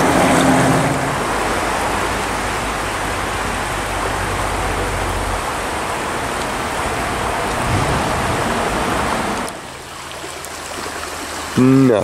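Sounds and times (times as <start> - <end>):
creek water rushing over stones: 0.0 - 12.0
water trickling: 0.0 - 12.0.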